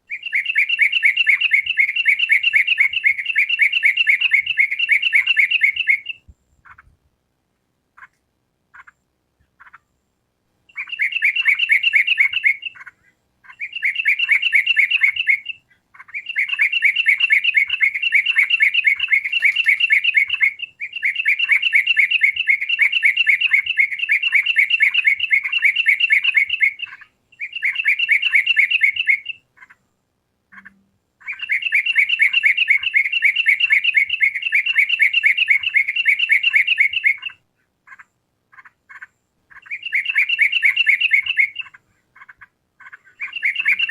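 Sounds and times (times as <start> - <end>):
bird chattering: 0.0 - 7.0, 10.7 - 29.8, 30.5 - 43.9.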